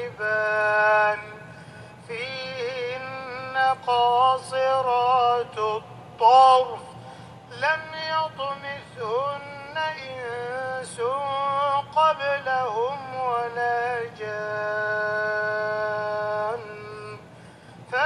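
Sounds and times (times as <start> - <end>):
man chanting melodic recitation: 0.0 - 1.4, 2.1 - 6.9, 7.5 - 17.2.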